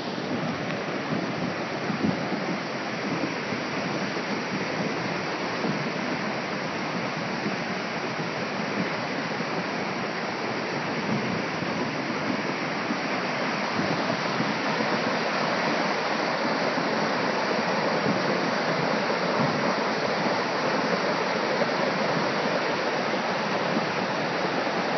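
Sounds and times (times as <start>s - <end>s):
river rushing: 0.0s - 24.9s.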